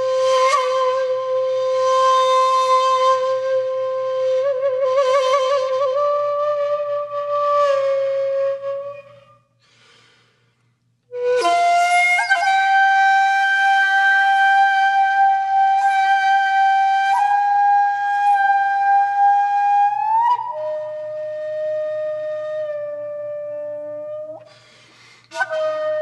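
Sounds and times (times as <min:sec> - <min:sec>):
music of long held notes: 0:00.0 - 0:09.5, 0:11.1 - 0:24.6, 0:25.3 - 0:26.0.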